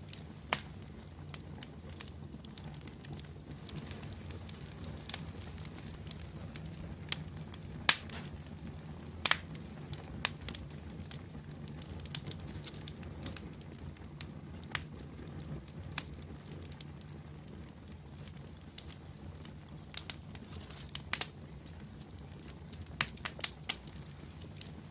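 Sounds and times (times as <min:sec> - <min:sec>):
fire crackles and pops: 0:00.0 - 0:24.9
fire flame rumble: 0:00.0 - 0:24.9.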